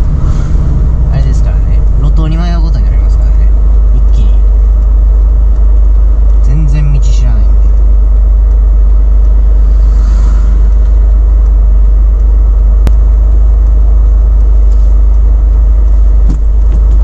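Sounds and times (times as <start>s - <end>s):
car engine rumble: 0.0s - 17.0s
road noise inside car: 0.0s - 17.0s.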